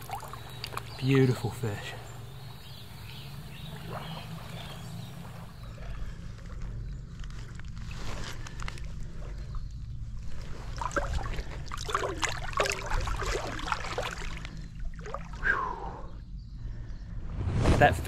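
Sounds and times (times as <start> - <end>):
shallow water splashing: 0.0 - 15.9
steady low rumble: 2.0 - 18.0.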